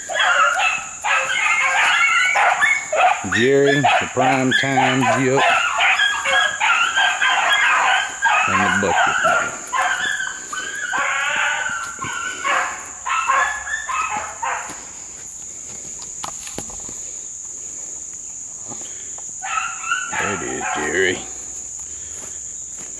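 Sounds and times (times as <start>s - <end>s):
hounds barking and bawling: 0.0s - 16.0s, 19.4s - 22.3s
high insect buzz: 0.0s - 22.9s.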